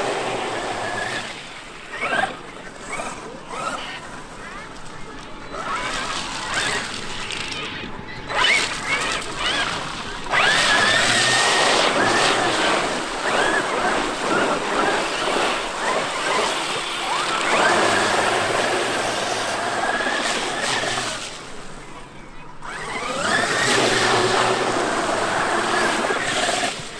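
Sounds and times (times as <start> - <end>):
electric motor whining: 0.0 - 26.9.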